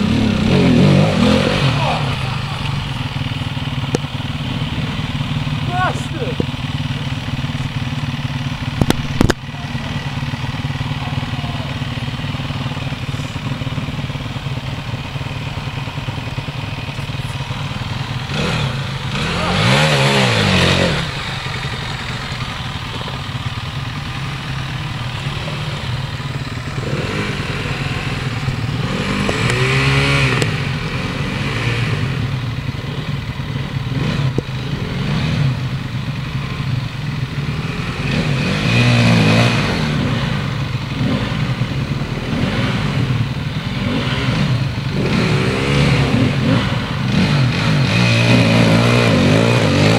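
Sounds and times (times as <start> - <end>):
motorcycle engines running: 0.0 - 49.9
motorcycle throttle revs: 0.0 - 49.9.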